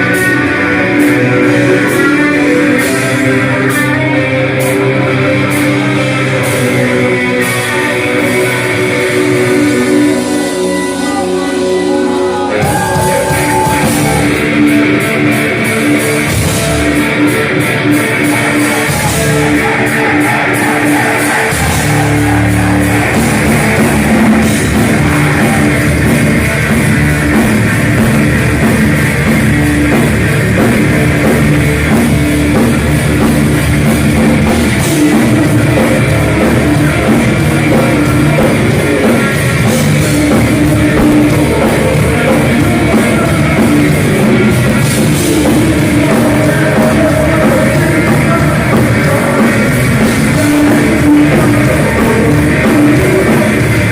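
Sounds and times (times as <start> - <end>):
electric guitar: 0.0 - 53.9
heavy metal band playing live: 0.0 - 53.9.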